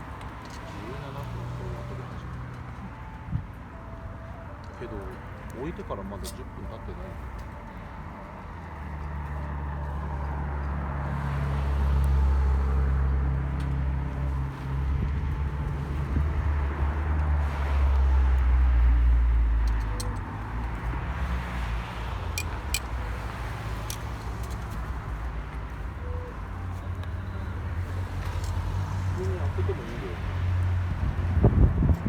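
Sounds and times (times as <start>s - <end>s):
vehicle engine and tyre noise: 0.0s - 32.0s.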